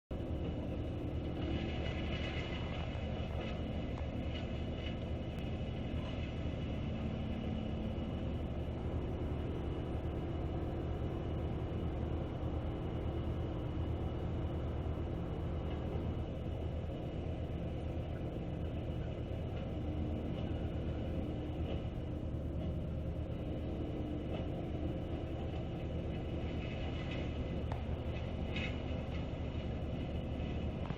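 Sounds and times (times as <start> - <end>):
wood chipper engine rumbling: 0.1 - 30.9.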